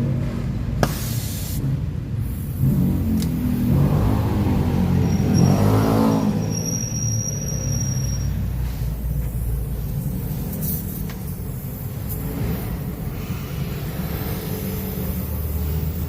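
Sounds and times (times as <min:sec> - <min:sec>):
motor vehicle engine rumble: 0:00.0 - 0:16.0.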